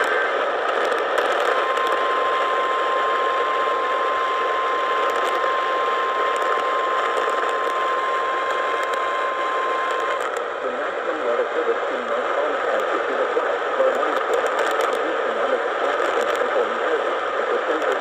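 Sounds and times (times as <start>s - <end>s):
radio static: 0.0s - 18.0s.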